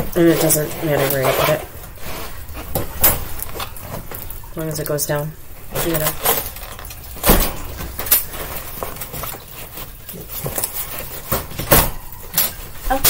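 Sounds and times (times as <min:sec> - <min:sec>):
wire cage panels rattling: 0:00.0 - 0:13.0.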